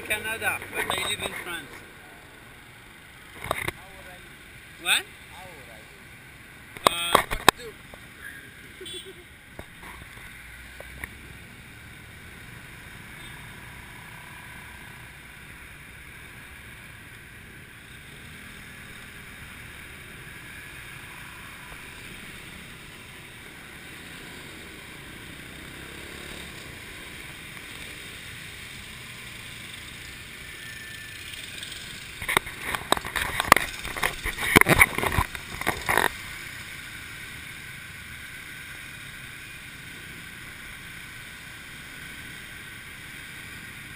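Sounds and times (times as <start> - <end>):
motorbike riding noise: 0.0 - 43.9.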